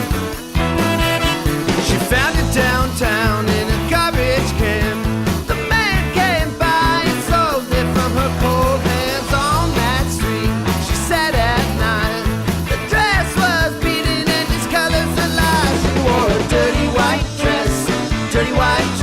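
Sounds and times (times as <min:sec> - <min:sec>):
bass and drums: 0:00.0 - 0:19.0
rock song with lead melody: 0:00.0 - 0:19.0.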